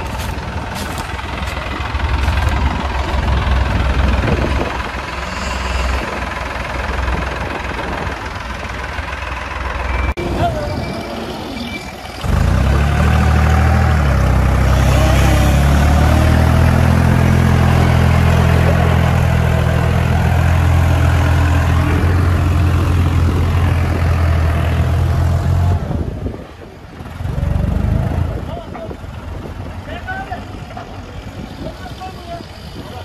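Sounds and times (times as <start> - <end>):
tractor diesel engine under load: 0.0 - 33.0.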